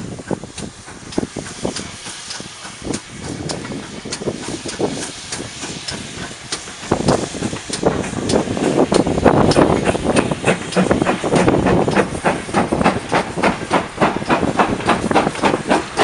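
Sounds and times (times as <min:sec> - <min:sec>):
hissing steam: 0:00.0 - 0:16.0
steam locomotive chuffing: 0:00.0 - 0:16.0.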